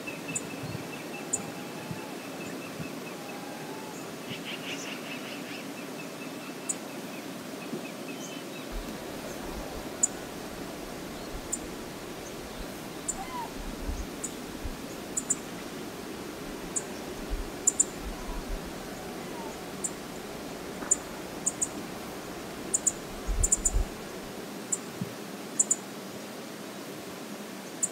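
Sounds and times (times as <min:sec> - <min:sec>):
river water flowing: 0:05.3 - 0:27.9.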